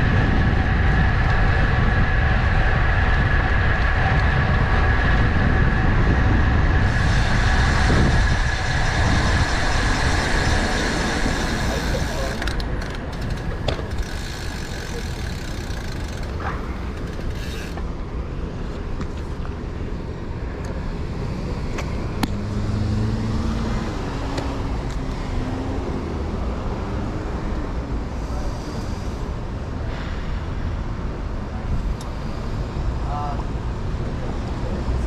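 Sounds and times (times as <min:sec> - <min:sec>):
city road traffic: 0:00.0 - 0:35.0
vehicle engine hum: 0:00.0 - 0:35.0
wind and road noise rumble: 0:00.0 - 0:35.0.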